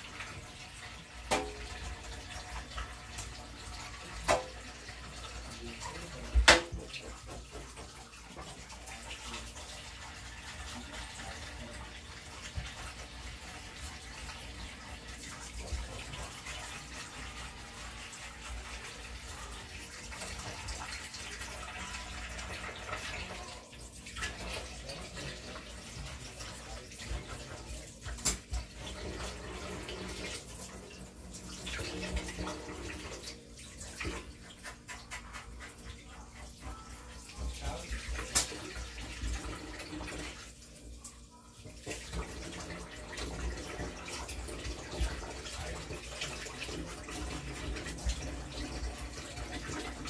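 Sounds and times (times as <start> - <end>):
tap water running into sink: 0.0 - 50.0.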